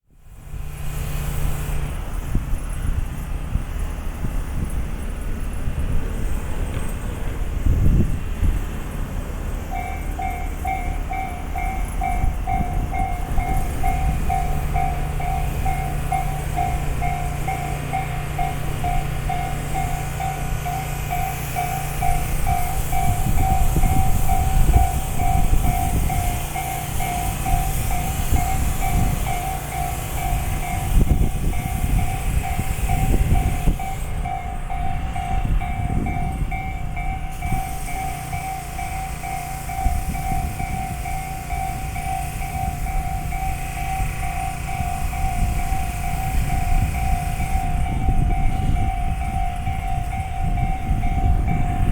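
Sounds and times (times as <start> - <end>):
train rumble: 0.0 - 51.9
wheels clacking over rail joints: 1.7 - 51.9
level crossing warning bell: 2.1 - 51.9.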